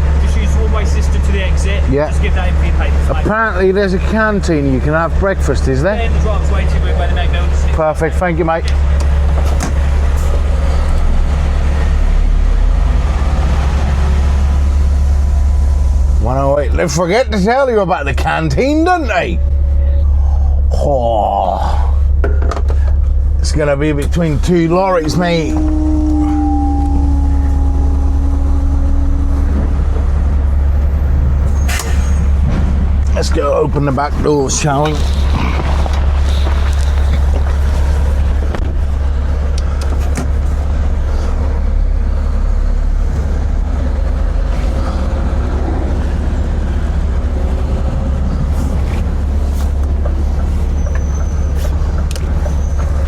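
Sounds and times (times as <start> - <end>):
steady hum: 0.0 - 50.8
diesel lorry engine droning: 0.0 - 53.0.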